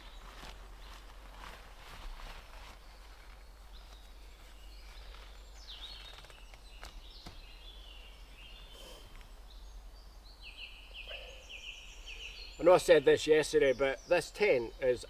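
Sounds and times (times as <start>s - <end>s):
faint outdoor hiss: 0.0s - 15.0s
woodland birds chirping: 0.0s - 15.0s.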